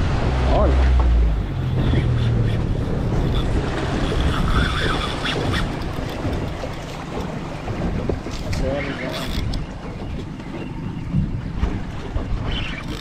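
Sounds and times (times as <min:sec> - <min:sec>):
water rushing past boat hull: 0:00.0 - 0:13.0
wind buffeting microphone: 0:00.0 - 0:13.0.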